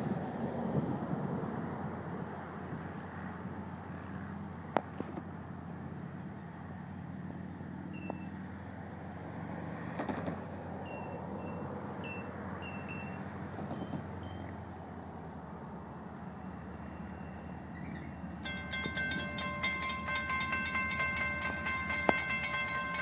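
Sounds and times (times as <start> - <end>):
distant diesel locomotive hum: 0.0 - 23.0.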